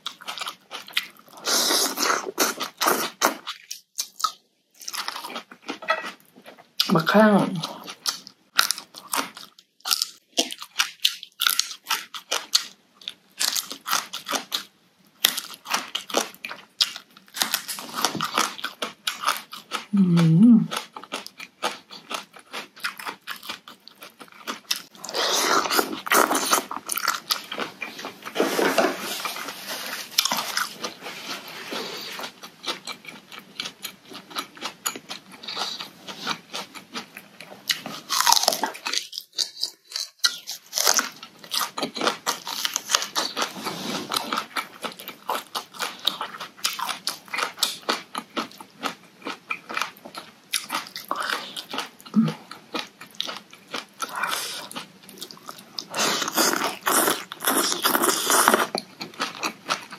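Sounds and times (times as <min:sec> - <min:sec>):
chewing noodles: 0:07.6 - 0:59.9.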